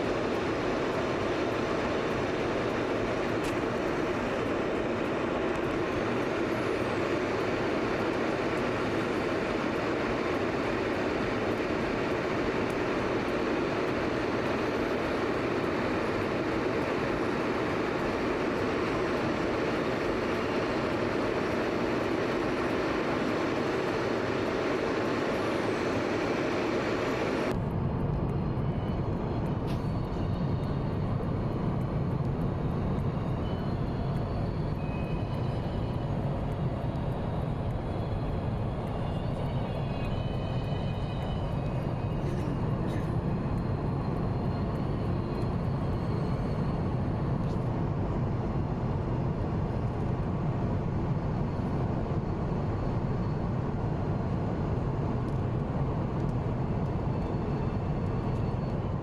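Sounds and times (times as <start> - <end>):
airliner cabin engine and airflow noise: 0.0 - 59.0.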